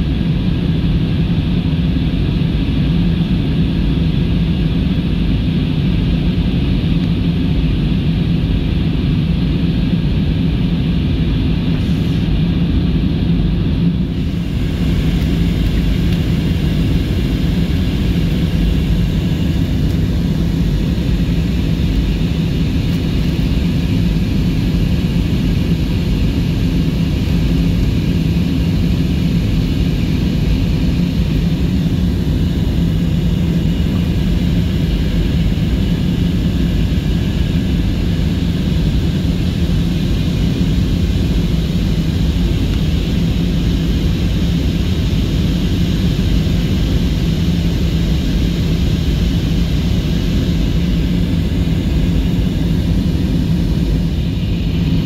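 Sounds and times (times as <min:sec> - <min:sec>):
airplane cabin engine hum: 0:00.0 - 0:55.0.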